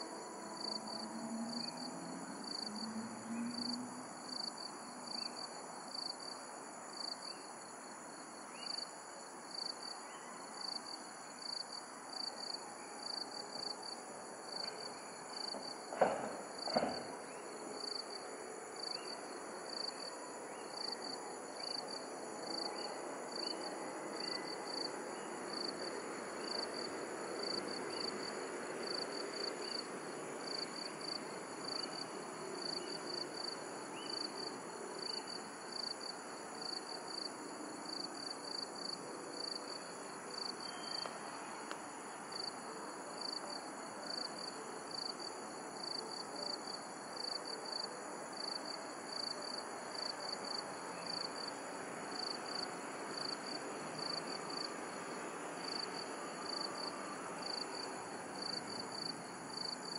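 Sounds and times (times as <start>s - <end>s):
background hiss: 0.0s - 59.9s
high insect trill: 0.0s - 59.9s
insects pulsing chirp: 0.0s - 59.9s.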